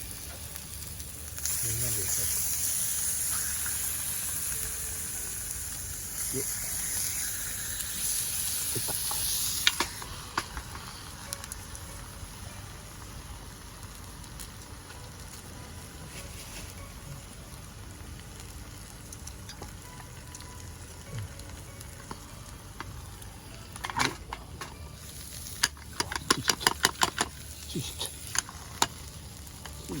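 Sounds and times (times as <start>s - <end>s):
campfire pops and crackles: 0.0s - 30.0s
food sizzling in a pan: 0.0s - 30.0s.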